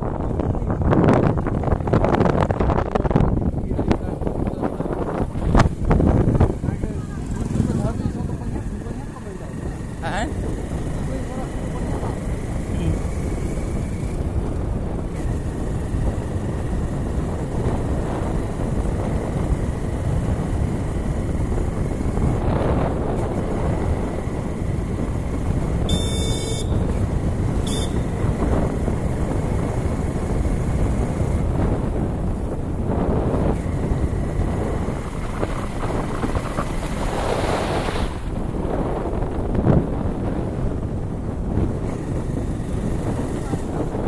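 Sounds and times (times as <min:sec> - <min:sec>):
motorcycle engine running: 0:00.0 - 0:44.0
wind noise on microphone: 0:00.0 - 0:44.0.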